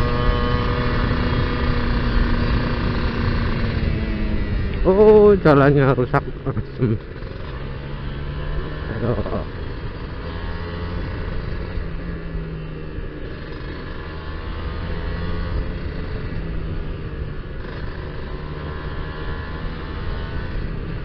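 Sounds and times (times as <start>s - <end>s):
two-stroke motorcycle engine running: 0.0s - 21.0s.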